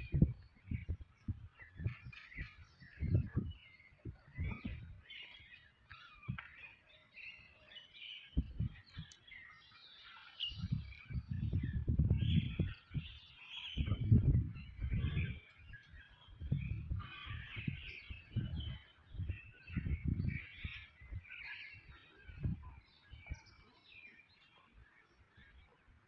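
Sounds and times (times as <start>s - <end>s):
low rumble on microphone: 0.0s - 6.7s, 8.2s - 9.4s, 10.2s - 23.8s
small birds chirping: 0.0s - 26.0s.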